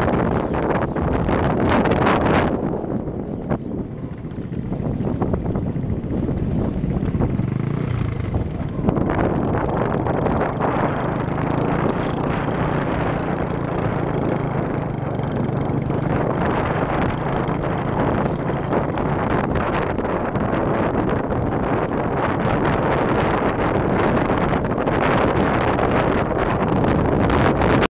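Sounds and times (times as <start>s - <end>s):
motorbike engine running: 0.0s - 27.9s
wind noise on microphone: 0.0s - 27.9s.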